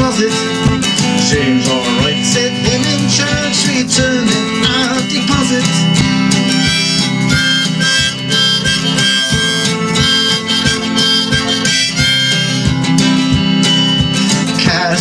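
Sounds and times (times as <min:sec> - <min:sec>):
harmonica melody: 0:00.0 - 0:14.6
strummed acoustic guitar: 0:00.0 - 0:15.0.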